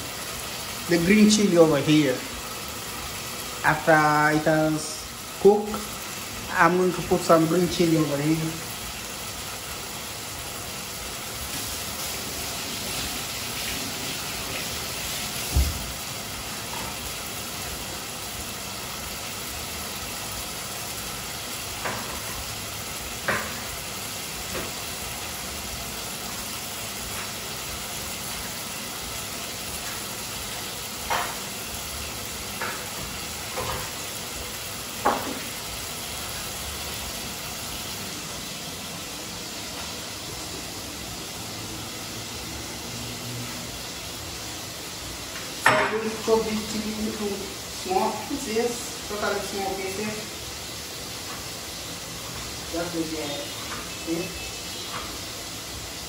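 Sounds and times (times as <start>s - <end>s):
beans sizzling in a pan: 0.0s - 56.0s.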